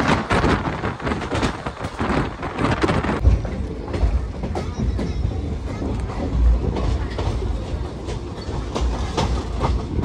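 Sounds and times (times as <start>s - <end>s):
train coaches rattling: 0.0s - 10.0s
wind buffeting microphone: 0.0s - 10.0s.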